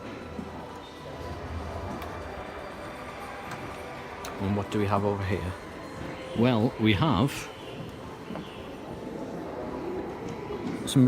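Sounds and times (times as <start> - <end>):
low indoor background noise: 0.0 - 11.0.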